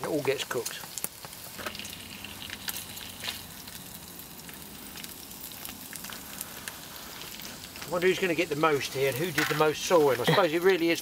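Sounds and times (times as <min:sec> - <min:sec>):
food sizzling in pans: 0:00.0 - 0:11.0.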